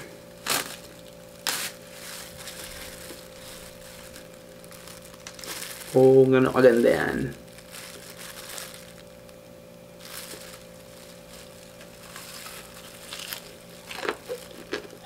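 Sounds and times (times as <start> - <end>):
plastic glove crinkling: 0.0 - 15.0.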